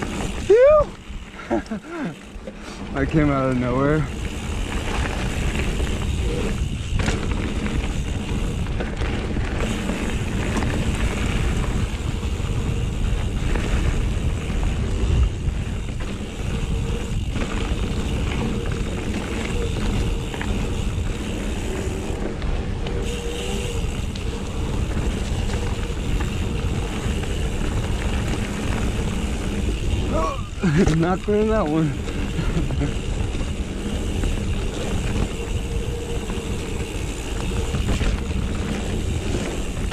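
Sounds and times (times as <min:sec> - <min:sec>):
bike tyres rumbling over dirt: 0:00.0 - 0:39.9
wind buffeting microphone: 0:02.9 - 0:39.9.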